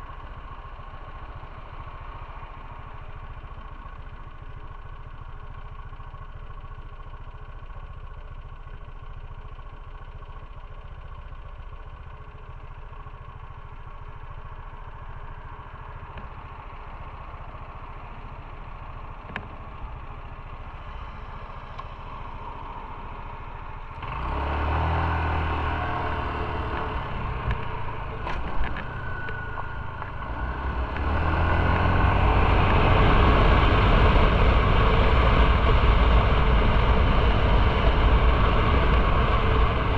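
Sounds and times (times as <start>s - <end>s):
motorcycle engine idling and accelerating: 0.0s - 39.9s.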